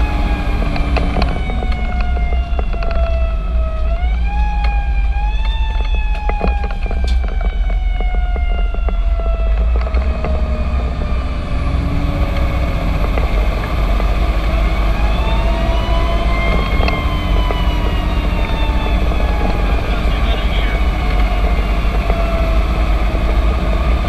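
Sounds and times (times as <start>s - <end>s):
engine rumble and road noise: 0.0s - 24.0s
fire engine siren wailing: 0.0s - 24.0s
knocks and rattles: 0.0s - 24.0s.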